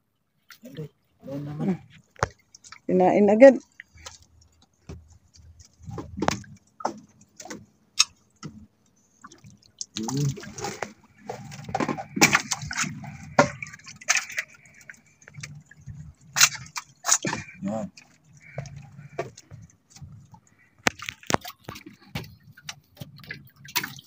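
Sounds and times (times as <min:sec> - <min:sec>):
water drips and splashes: 0:01.9 - 0:24.0.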